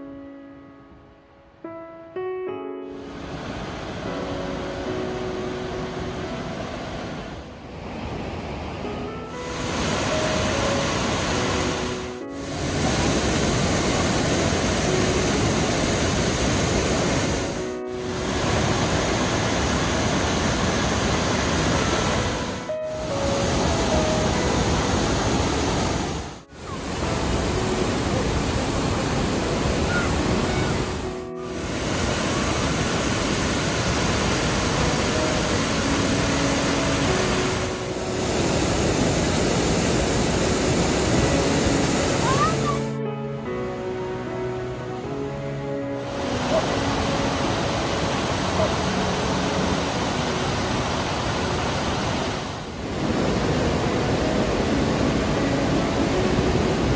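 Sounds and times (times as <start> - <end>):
soft background music: 0.0 - 56.9
waterfall rushing: 2.9 - 43.1, 43.8 - 56.9.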